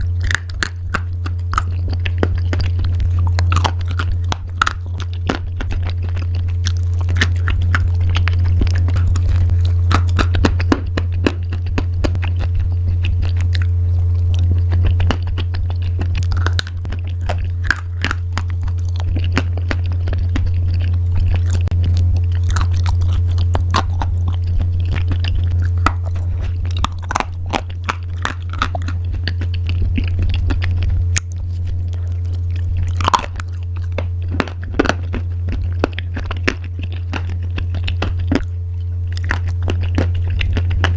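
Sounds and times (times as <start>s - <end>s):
crunchy pasta being chewed: 0.0s - 40.9s
steady low hum: 0.0s - 40.9s.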